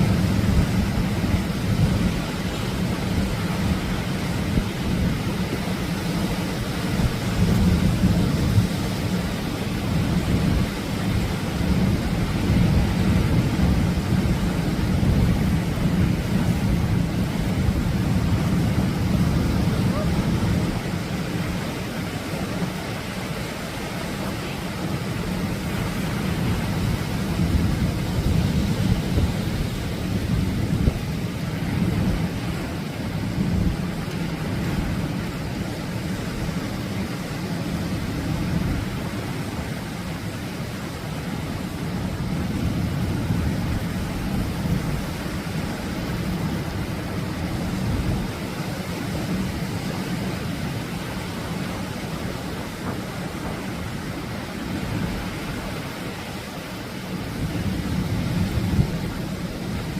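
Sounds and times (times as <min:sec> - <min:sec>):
surf breaking on shore: 0:00.0 - 0:59.9.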